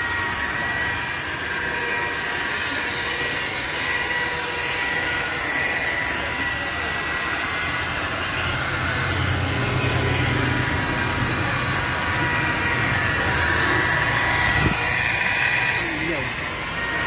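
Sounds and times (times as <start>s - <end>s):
electric polisher motor whine: 0.0s - 17.0s.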